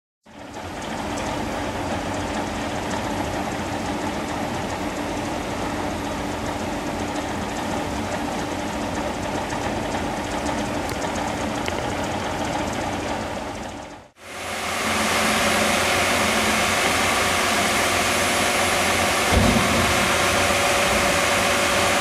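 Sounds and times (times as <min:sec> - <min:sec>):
farm machinery drone: 0:00.3 - 0:22.0.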